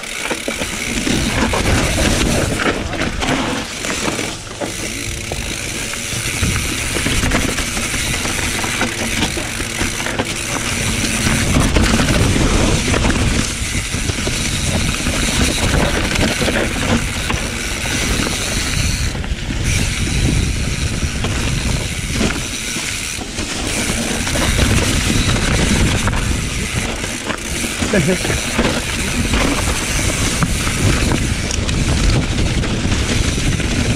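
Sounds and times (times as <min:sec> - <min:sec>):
bike rattling over bumps: 0:00.0 - 0:33.9
bike tyres over leaves and dirt: 0:00.0 - 0:33.9
wind on microphone: 0:00.8 - 0:09.8, 0:10.4 - 0:33.9.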